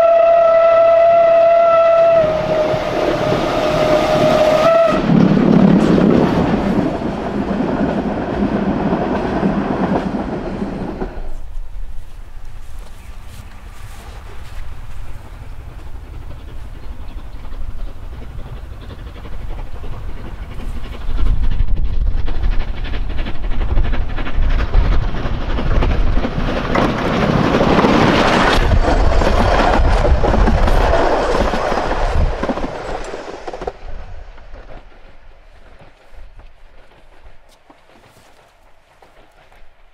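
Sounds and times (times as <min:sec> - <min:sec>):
steam train running past: 0:00.0 - 0:39.9
train wheel clatter: 0:00.0 - 0:39.9.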